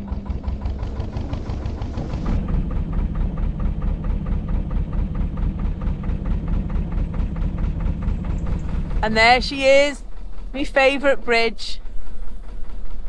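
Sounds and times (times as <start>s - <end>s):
diesel boat engine chugging: 0.0s - 13.0s.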